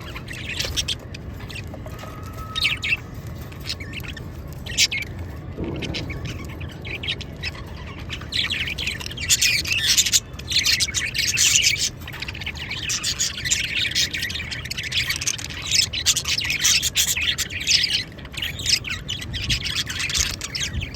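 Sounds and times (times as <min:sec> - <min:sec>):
parrots chirping and squawking: 0:00.0 - 0:20.9.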